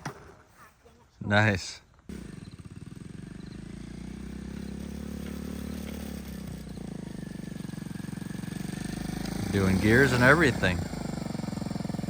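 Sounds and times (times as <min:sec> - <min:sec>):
small motorbike engine running: 0:02.1 - 0:12.0.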